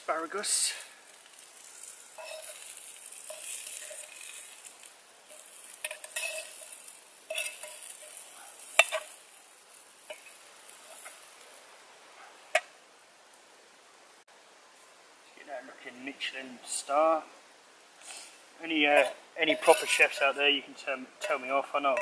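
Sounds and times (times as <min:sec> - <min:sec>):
asparagus sizzling in frying pan: 0:00.0 - 0:14.2, 0:16.6 - 0:22.0.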